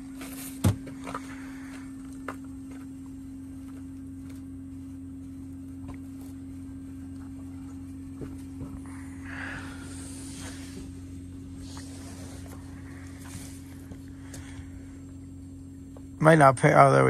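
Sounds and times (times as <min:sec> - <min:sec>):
heat pump unit humming: 0:00.0 - 0:17.0.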